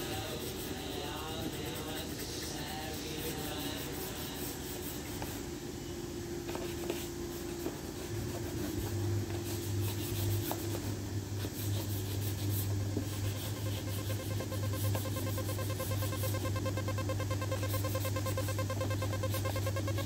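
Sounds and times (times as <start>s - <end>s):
sanding pad rubbing panel: 0.0s - 5.4s, 6.5s - 20.0s
steady low hum: 0.0s - 20.0s.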